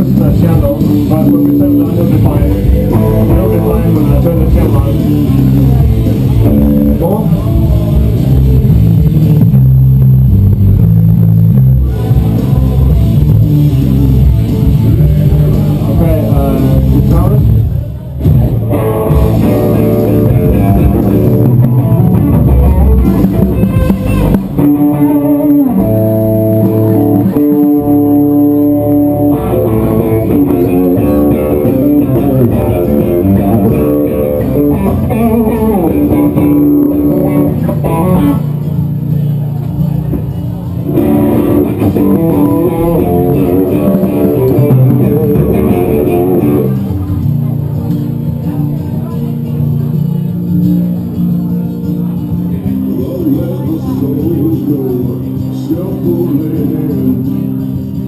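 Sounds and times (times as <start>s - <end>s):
guitar-led rock music: 0.0s - 58.0s.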